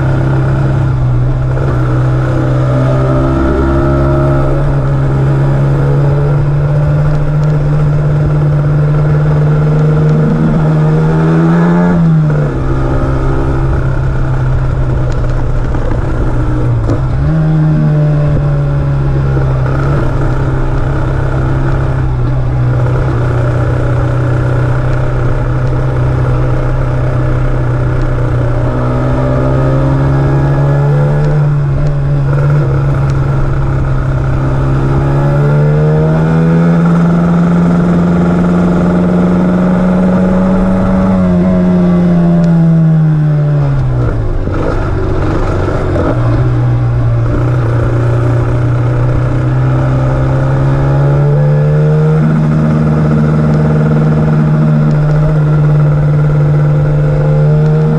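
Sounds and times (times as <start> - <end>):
two-stroke motorcycle engine running: 0.0 - 57.9.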